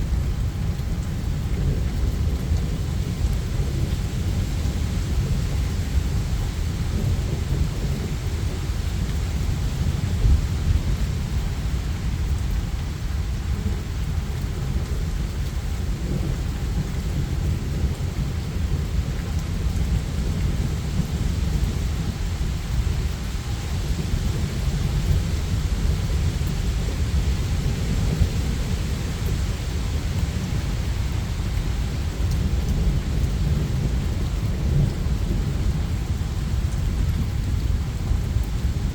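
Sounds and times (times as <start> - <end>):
low rumbling thunder: 0.0 - 38.9
rain hissing: 0.0 - 38.9.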